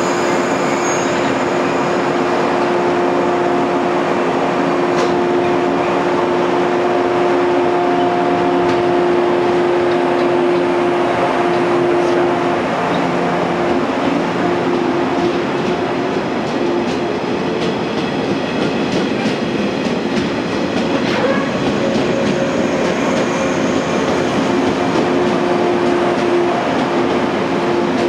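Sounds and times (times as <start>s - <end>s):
electric train running rumble: 0.0s - 28.0s.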